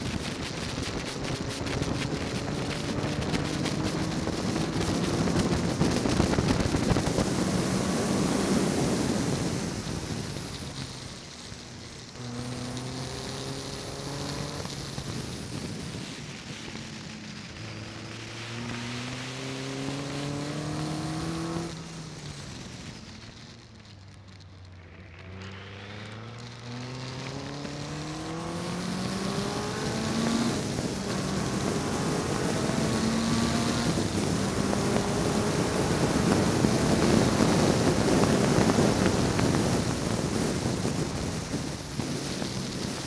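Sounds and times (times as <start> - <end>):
wind rush on microphone: 0.0 - 23.2, 27.1 - 43.0
sports car engine accelerating: 0.0 - 43.0.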